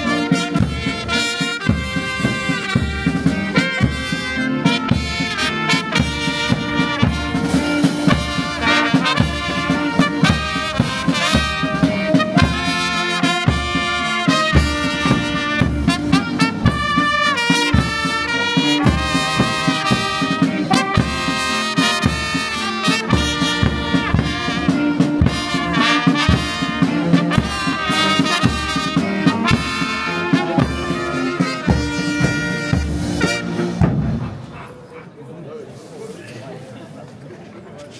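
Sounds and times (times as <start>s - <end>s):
steady drum beat: 0.0s - 34.5s
brass band playing a march: 0.0s - 34.7s.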